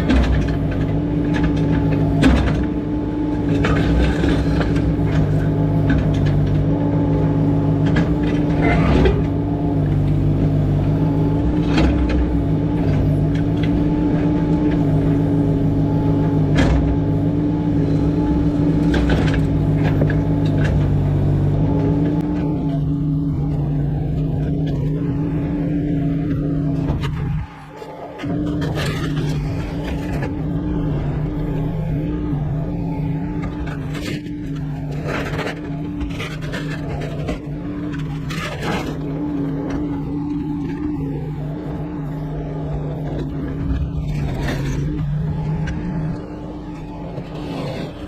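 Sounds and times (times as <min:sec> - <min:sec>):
clunks and rattles: 0:00.0 - 0:41.0
heavy vehicle engine running: 0:00.0 - 0:48.0.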